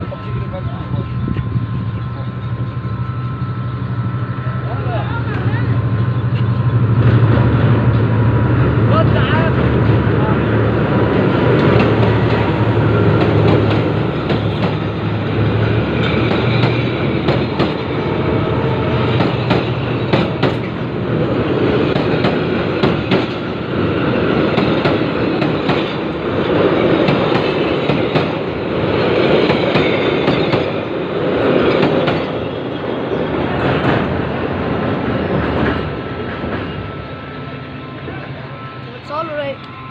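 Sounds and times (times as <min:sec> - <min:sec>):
train rumbling over bridge: 0:00.0 - 0:39.9.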